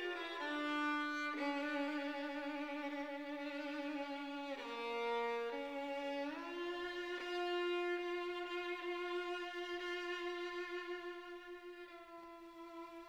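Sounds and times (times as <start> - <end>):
violin with vibrato: 0.0 - 13.0.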